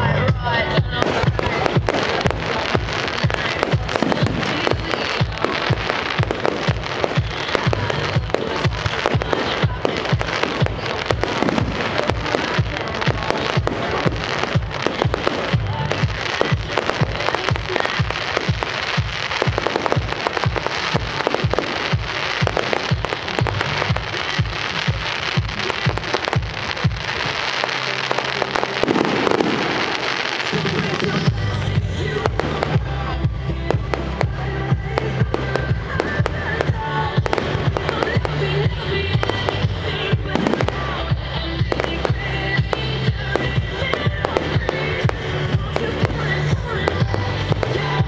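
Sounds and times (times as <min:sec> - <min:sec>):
fireworks bangs and crackling: 0:00.0 - 0:48.0
music: 0:00.0 - 0:48.0.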